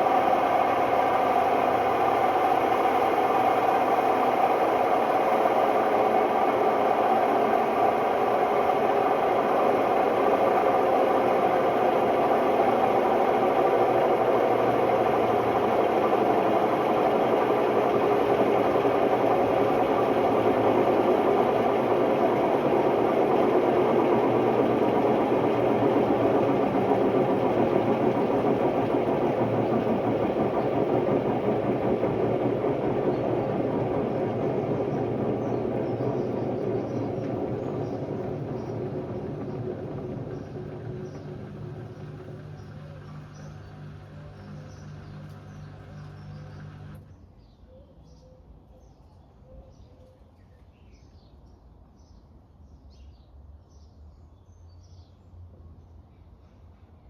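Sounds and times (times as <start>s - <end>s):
washing machine spinning: 0.0s - 47.1s.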